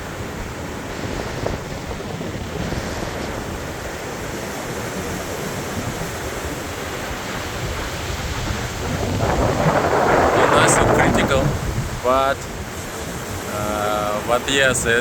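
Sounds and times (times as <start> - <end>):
storm surf breaking: 0.0 - 15.0
wind buffeting microphone: 0.0 - 15.0.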